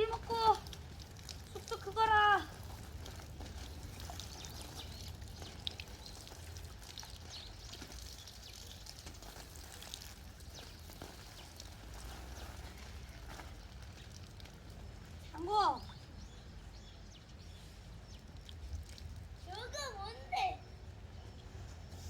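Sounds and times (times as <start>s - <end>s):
small splashes and drips: 0.0s - 21.5s
water pouring and trickling: 0.0s - 22.0s.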